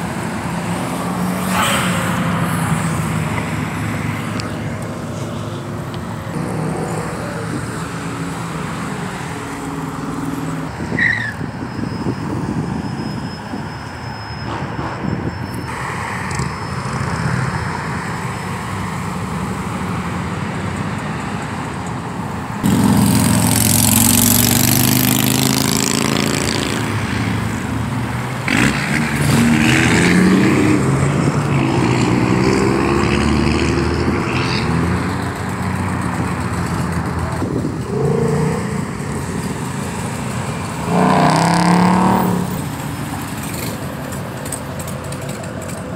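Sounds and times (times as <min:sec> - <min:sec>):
cars driving past: 0:00.0 - 0:45.9.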